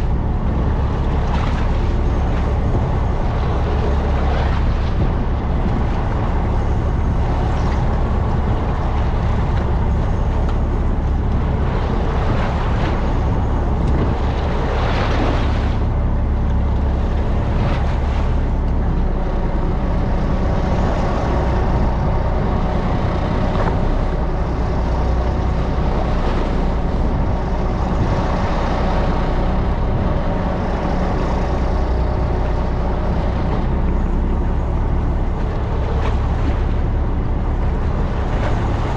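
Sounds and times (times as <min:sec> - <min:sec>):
boat engine humming: 0:00.0 - 0:38.9.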